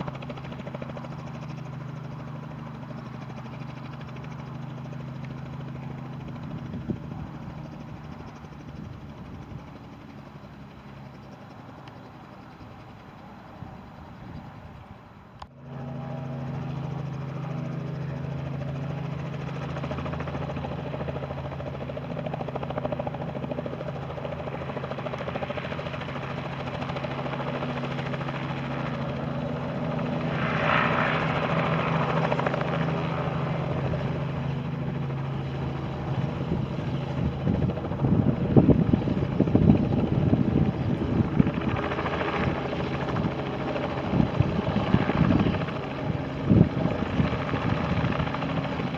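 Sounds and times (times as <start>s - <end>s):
helicopter engine humming: 0.0s - 48.9s
helicopter rotor chopping: 0.0s - 48.9s.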